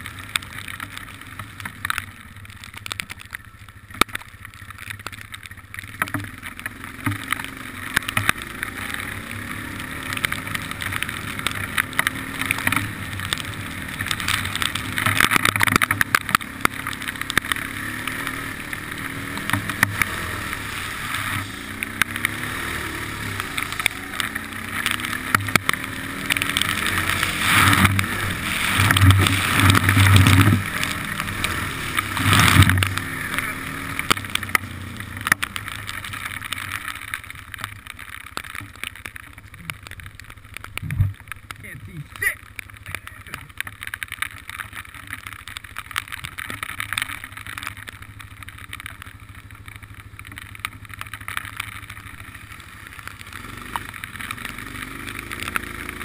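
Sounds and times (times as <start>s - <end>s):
atv engine revving: 0.0s - 56.0s
water splashing from tyres: 0.0s - 56.0s.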